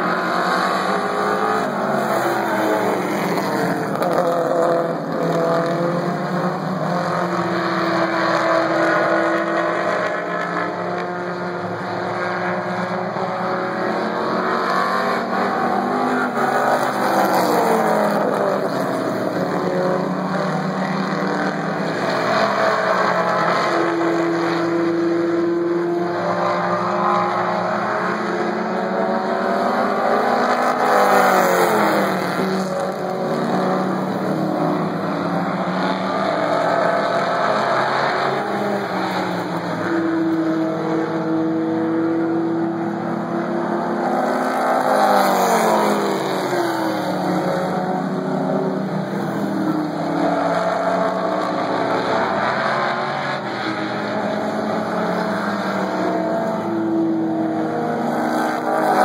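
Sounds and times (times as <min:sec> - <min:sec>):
race car engines lapping: 0:00.0 - 0:59.0.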